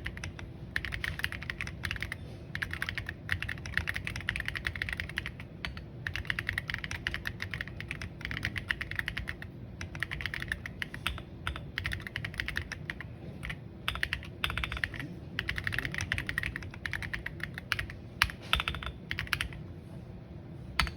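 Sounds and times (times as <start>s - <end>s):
typing on mechanical keyboard: 0.0s - 19.6s.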